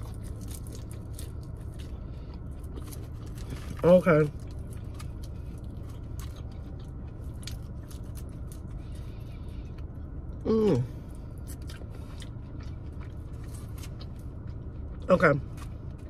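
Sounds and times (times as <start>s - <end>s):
crunchy chewing: 0.0s - 16.0s
low background hum: 0.0s - 16.0s.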